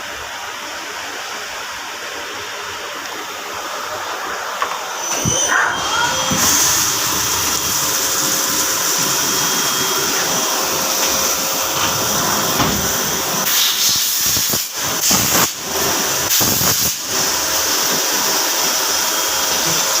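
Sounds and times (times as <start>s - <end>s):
loud steady hiss: 0.0s - 20.0s.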